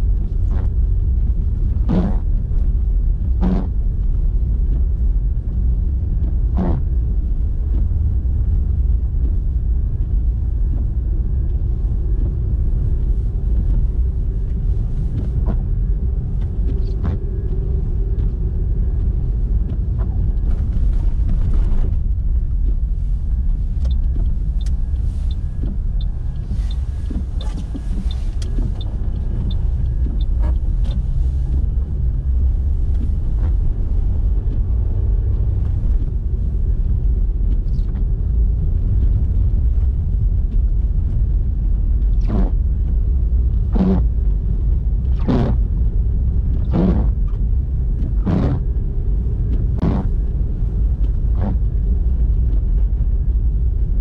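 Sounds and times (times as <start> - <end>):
car engine and tyres rumbling: 0.0 - 54.0
faint hum: 0.0 - 54.0.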